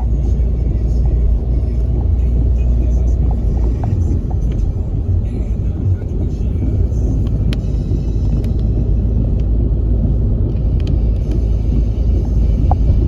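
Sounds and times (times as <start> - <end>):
car road rumble inside cabin: 0.0 - 13.0.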